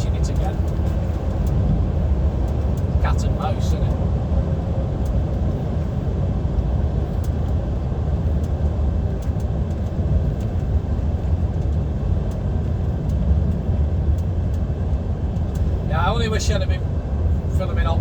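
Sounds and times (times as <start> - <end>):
diesel engine rumble in truck cab: 0.0 - 18.0
tyre and road noise: 0.0 - 18.0.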